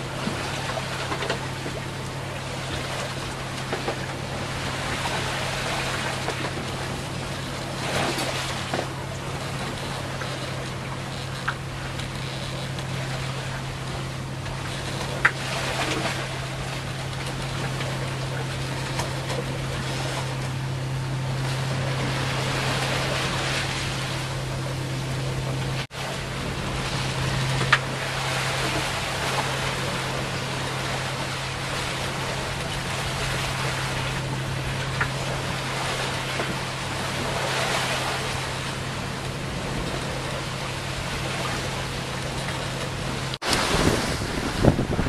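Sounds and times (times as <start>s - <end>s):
sea water rushing along hull: 0.0s - 45.0s
steady low hum: 0.0s - 45.0s.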